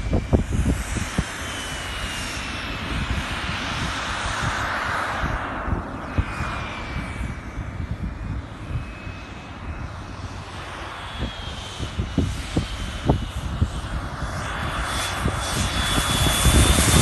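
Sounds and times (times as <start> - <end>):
model jet fan whine: 0.0 - 17.0
wind buffeting microphone: 0.0 - 17.0.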